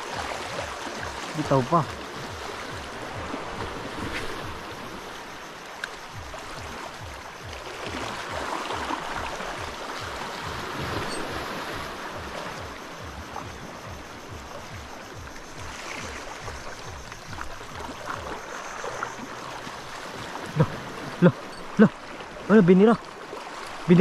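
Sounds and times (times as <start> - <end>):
water splashing and hissing: 0.0 - 24.0.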